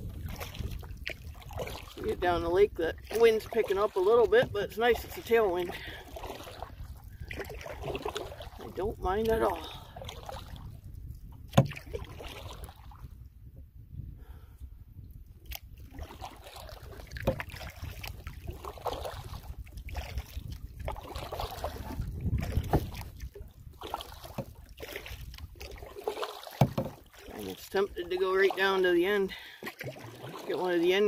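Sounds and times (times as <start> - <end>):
wind rumble on microphone: 0.0 - 26.1
water lapping against canoe hull: 0.0 - 31.0.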